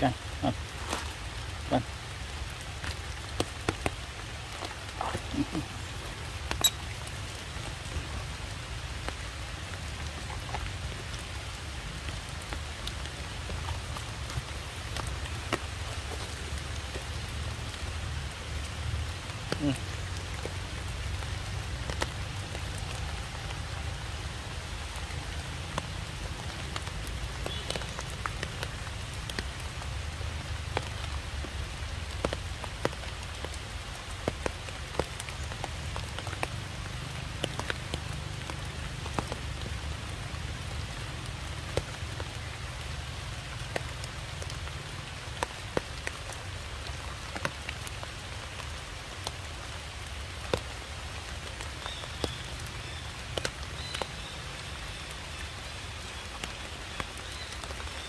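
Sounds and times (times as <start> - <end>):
rain hiss: 0.0 - 58.0.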